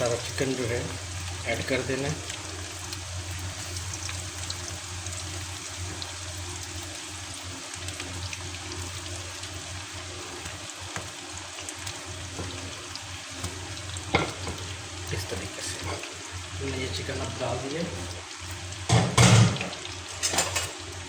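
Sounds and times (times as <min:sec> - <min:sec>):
small oil crackles: 0:00.0 - 0:18.8
food deep-frying in oil: 0:00.0 - 0:21.0.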